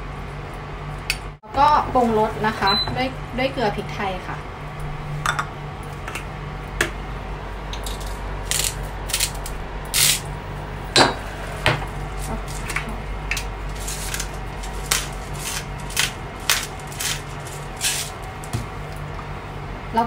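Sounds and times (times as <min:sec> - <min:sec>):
low hob hum: 0:00.0 - 0:20.0.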